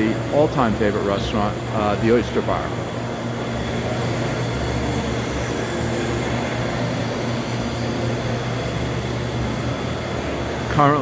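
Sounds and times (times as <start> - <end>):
low ventilation hum: 0.0 - 11.0.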